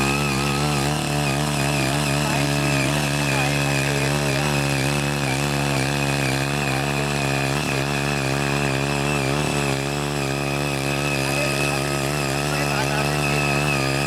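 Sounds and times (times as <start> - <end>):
cultivator engine running: 0.0 - 14.0
tines churning soil: 0.0 - 14.0.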